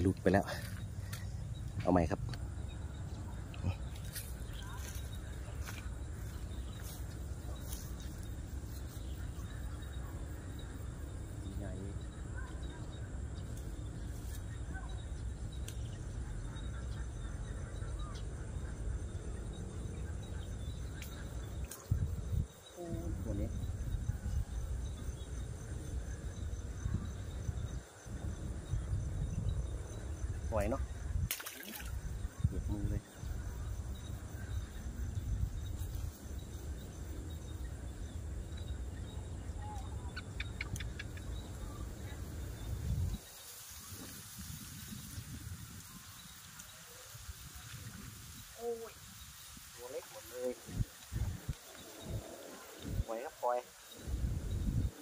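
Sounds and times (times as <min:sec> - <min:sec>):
faint bird chirps: 0:00.0 - 0:55.0.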